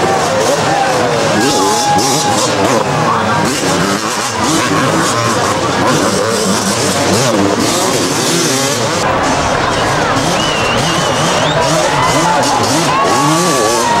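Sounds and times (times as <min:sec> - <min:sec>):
crowd noise: 0:00.0 - 0:14.0
motorcycle engines revving: 0:00.0 - 0:14.0.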